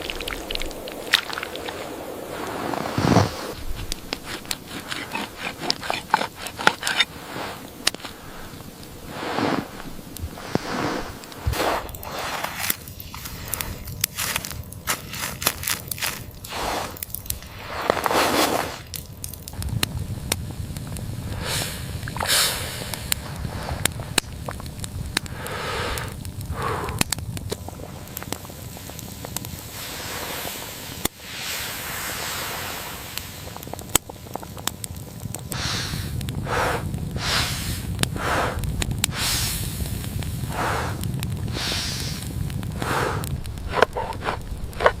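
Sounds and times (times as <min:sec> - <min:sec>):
swishing crunching sounds: 0:00.0 - 0:19.8, 0:25.3 - 0:45.0
wood fire crackling and popping: 0:00.0 - 0:45.0.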